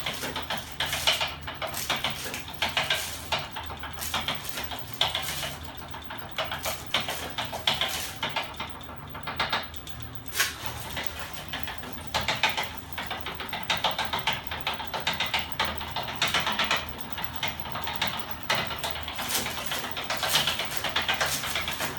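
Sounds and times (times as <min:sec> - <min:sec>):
machine linkages clattering: 0:00.0 - 0:21.9.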